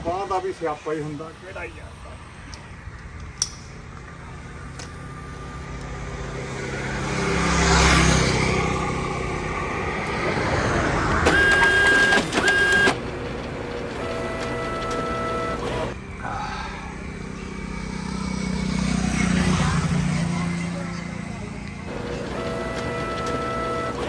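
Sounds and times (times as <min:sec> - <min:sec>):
motorcycle passing: 0:01.5 - 0:24.0.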